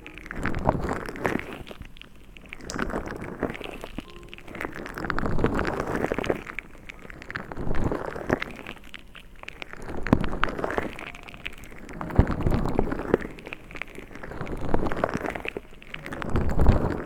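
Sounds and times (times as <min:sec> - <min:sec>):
crackly rustling: 0:00.0 - 0:17.0.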